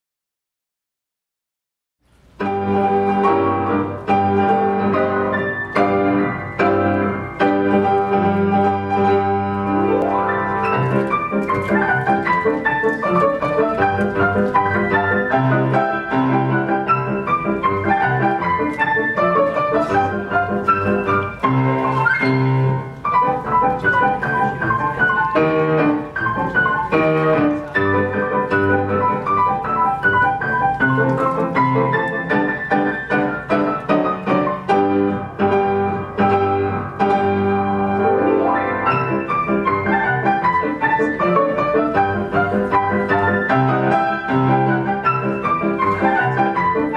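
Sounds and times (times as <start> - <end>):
grand piano: 2.0 - 46.9
woodwind instrument: 2.4 - 46.9.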